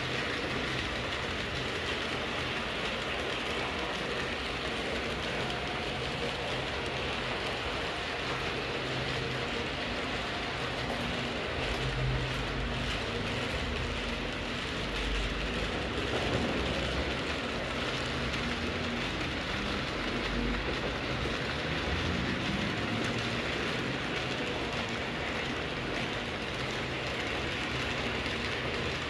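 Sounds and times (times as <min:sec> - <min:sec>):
model train wheels rolling on rails: 0:00.0 - 0:29.0.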